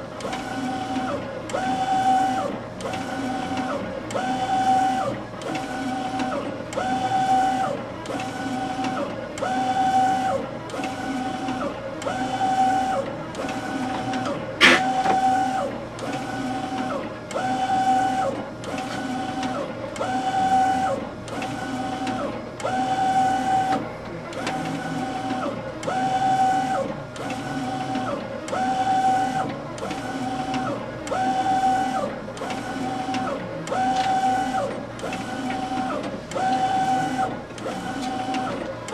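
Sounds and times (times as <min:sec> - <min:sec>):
printer carriage sweeping with motor whine: 0:00.0 - 0:38.9.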